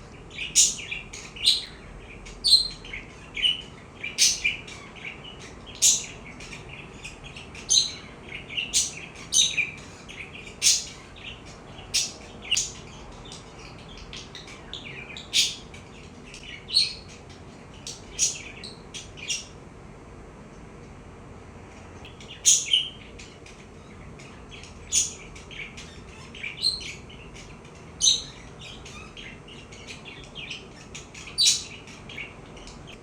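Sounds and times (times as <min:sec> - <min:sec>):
budgerigar chirping: 0:00.3 - 0:17.2, 0:22.1 - 0:32.7.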